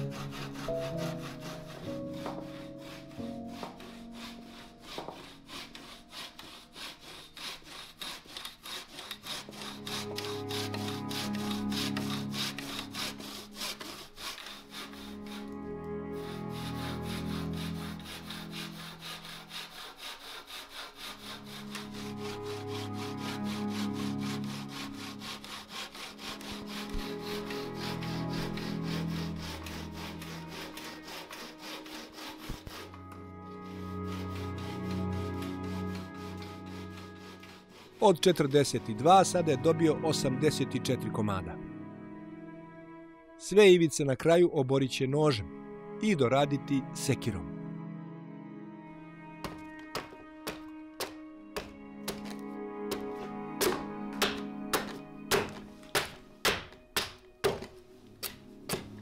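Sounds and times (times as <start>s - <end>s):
hand saw cutting wood: 0.0s - 39.5s, 49.4s - 59.0s
background music: 0.0s - 59.0s.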